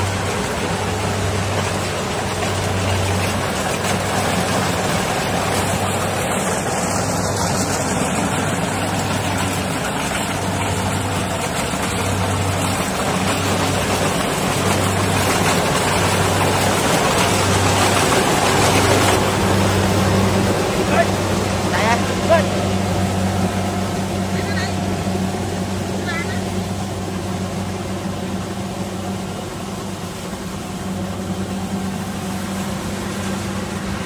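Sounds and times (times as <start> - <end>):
combine harvester engine and threshing: 0.0 - 34.0.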